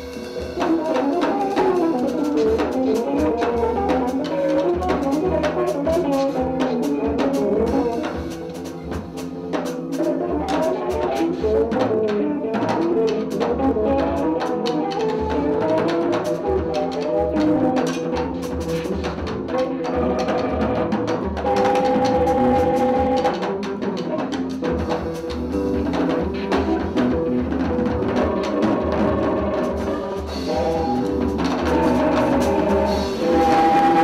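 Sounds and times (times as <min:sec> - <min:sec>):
drums and cymbals: 0:00.0 - 0:34.0
jazz melodic lines: 0:00.0 - 0:34.0.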